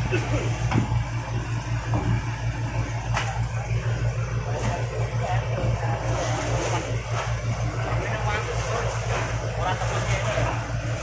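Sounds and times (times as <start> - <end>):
boat diesel engine running: 0.0 - 11.0.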